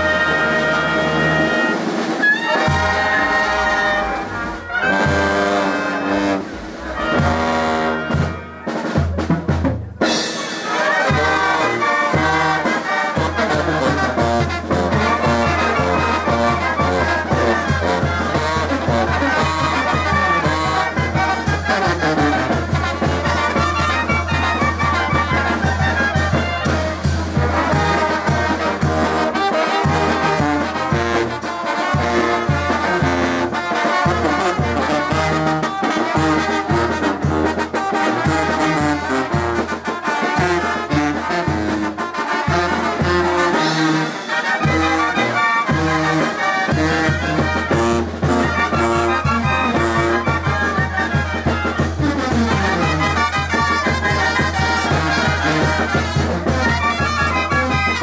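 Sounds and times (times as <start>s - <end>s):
brass band playing: 0.0s - 58.0s
drums: 0.0s - 58.0s
tuba bass: 0.0s - 58.0s.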